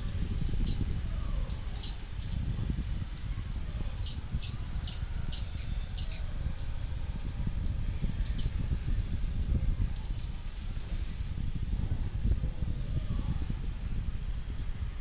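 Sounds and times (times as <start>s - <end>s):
sparrows chirping: 0.0s - 15.0s
steady low rumble: 0.0s - 15.0s.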